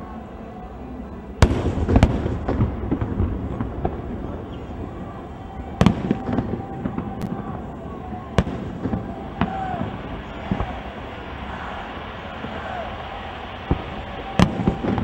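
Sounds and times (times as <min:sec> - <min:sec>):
fireworks booming: 0:01.4 - 0:15.0
fireworks crackling and popping: 0:01.4 - 0:15.0.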